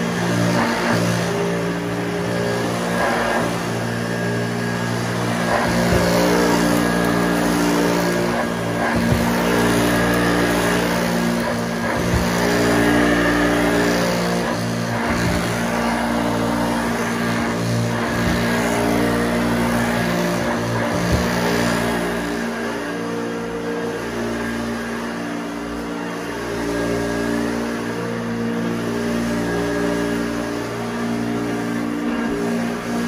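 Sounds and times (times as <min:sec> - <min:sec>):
vacuum cleaner running over carpet: 0:00.0 - 0:33.0.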